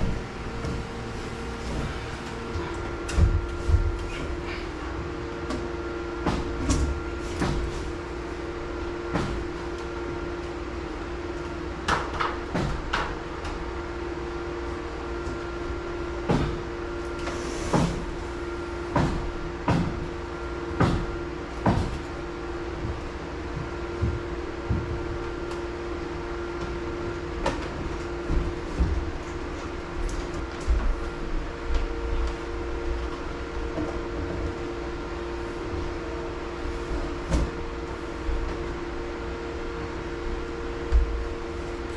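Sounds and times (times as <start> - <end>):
steady hum: 0.0 - 41.9.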